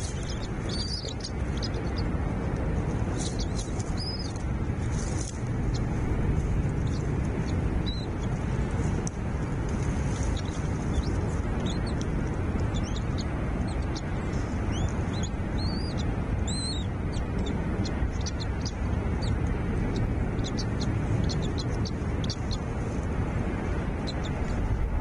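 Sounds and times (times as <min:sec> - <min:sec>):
small birds chirping: 0:00.0 - 0:02.2, 0:03.0 - 0:23.0, 0:24.0 - 0:25.0
low rumbling background noise: 0:00.0 - 0:25.0.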